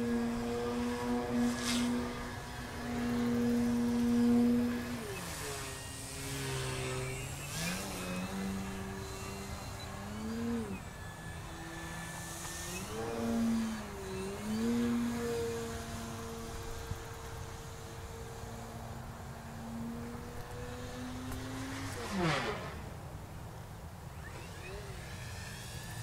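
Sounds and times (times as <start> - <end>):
model plane motor droning: 0.0 - 26.0.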